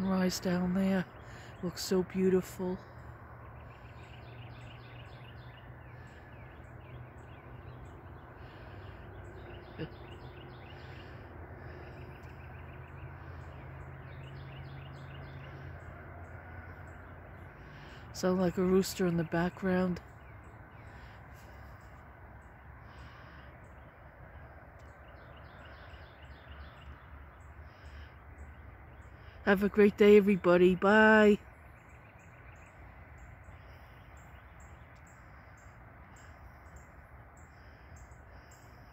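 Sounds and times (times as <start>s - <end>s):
birds chirping: 0.0s - 38.9s
low background rumble: 0.0s - 38.9s
steady low hum: 0.0s - 38.9s.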